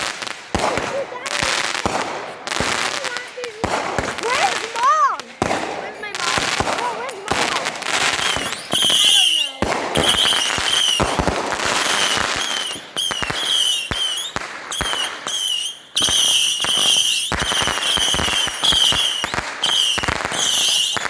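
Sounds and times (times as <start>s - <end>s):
firework cracks and pops: 0.0s - 21.0s
shrill whistling fireworks: 0.0s - 21.0s.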